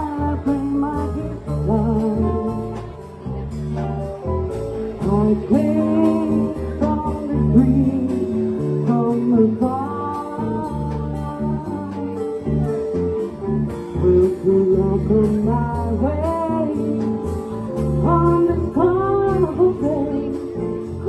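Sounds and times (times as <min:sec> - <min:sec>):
person singing: 0:00.0 - 0:03.0, 0:05.0 - 0:21.0
guitar: 0:00.0 - 0:21.0
walking bass line: 0:00.0 - 0:21.0.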